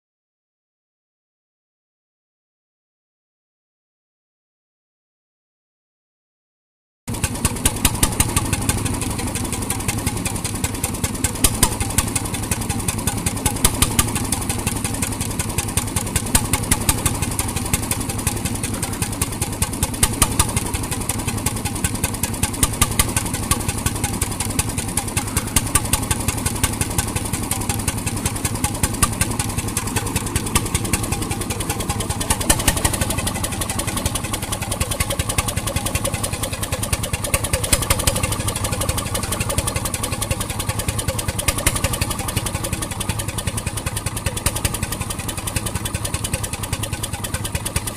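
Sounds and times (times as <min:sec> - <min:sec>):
marine engine knocking: 0:07.1 - 0:47.9.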